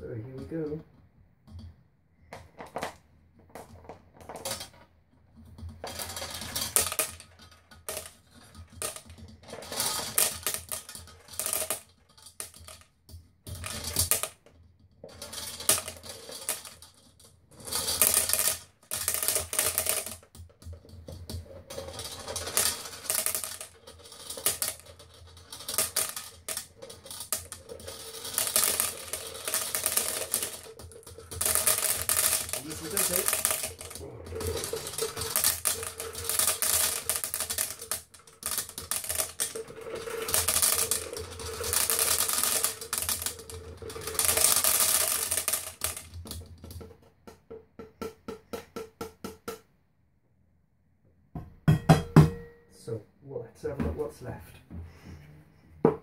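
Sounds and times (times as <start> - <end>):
steel balls clattering: 1.5 - 49.7.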